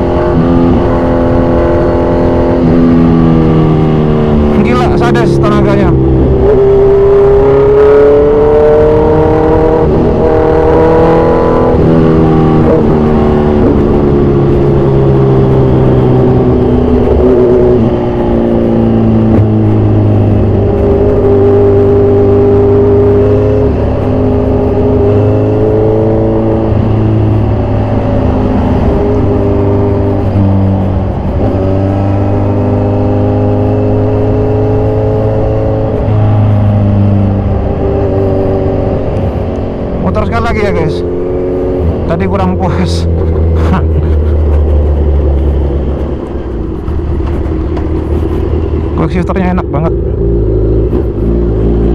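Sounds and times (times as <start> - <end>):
motorcycle engine revving hard: 0.0 - 51.9.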